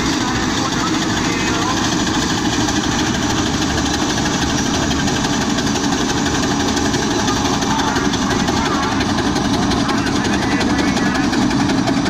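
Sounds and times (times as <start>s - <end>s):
steam tractor engine running: 0.0s - 12.0s.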